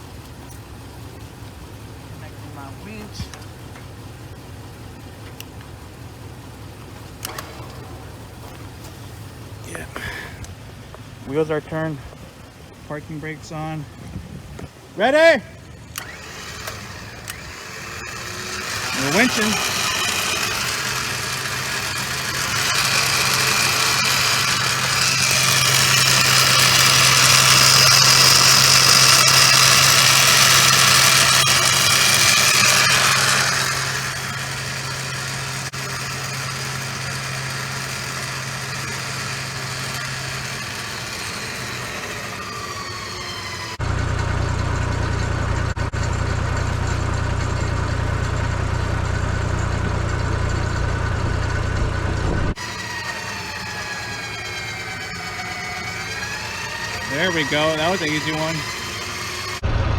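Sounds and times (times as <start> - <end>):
electric winch whining: 0.0 - 59.9
truck engine idling: 0.0 - 59.9.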